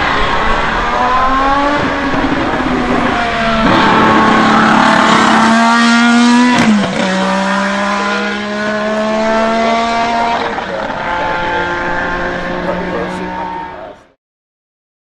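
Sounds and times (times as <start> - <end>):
racing car engine passing by: 0.0 - 14.1.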